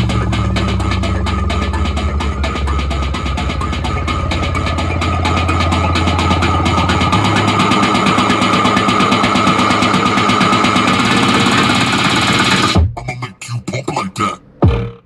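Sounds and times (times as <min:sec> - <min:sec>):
electronic dance music through car speakers: 0:00.0 - 0:15.0.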